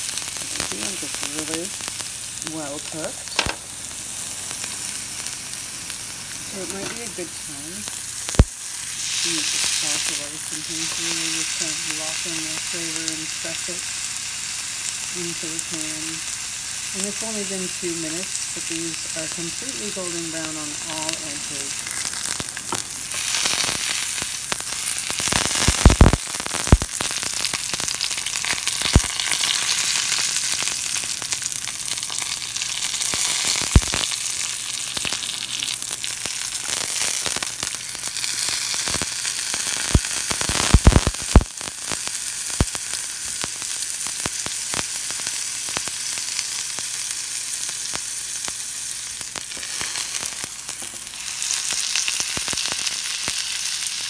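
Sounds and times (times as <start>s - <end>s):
mushrooms sizzling in oil: 0.0s - 54.0s.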